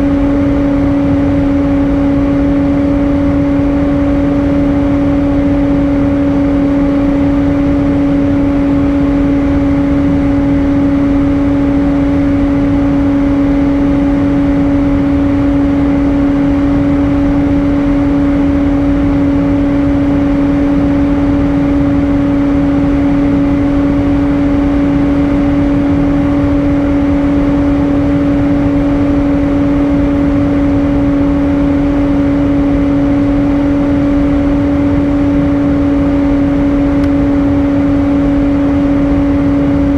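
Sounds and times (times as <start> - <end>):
two-pitch engine hum: 0.0 - 39.9.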